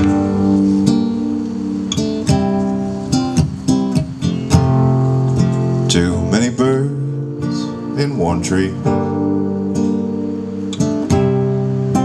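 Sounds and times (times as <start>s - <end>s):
acoustic guitar plucked and strummed: 0.0s - 12.0s.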